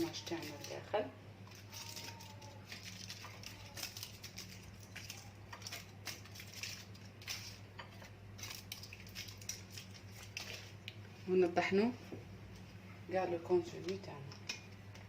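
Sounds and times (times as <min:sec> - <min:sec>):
kitchen clicks and rustles: 0:00.0 - 0:11.0, 0:13.7 - 0:15.0.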